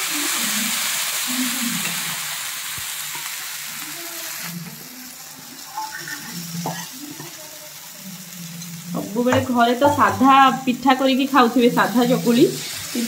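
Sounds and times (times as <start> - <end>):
batter sizzling on hot pan: 0.0 - 13.0.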